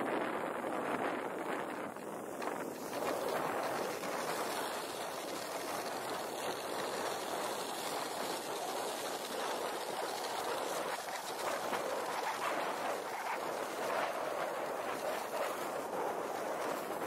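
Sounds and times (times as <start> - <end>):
skis hissing over snow: 0.9 - 17.0.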